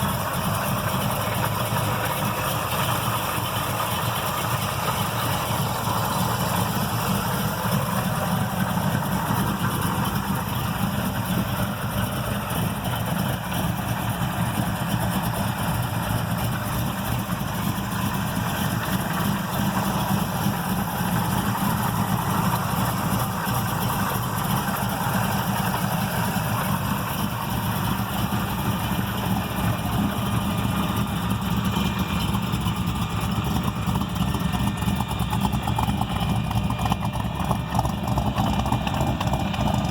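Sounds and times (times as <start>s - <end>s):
car engine with rough choppy idle: 0.0s - 39.9s.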